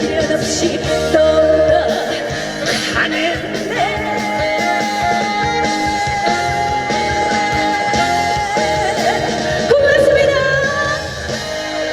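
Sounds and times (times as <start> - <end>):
live band playing: 0.0 - 11.9.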